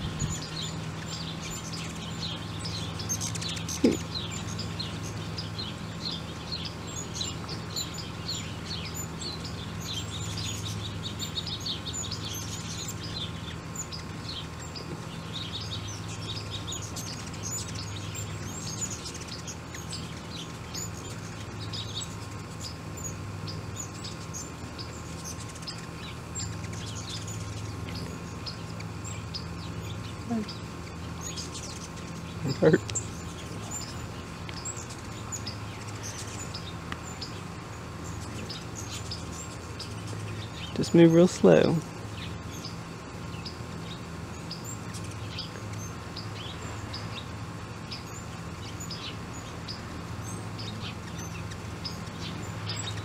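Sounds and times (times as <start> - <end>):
hummingbirds chipping and chattering: 0.0 - 53.0
steady low hum: 0.0 - 53.0.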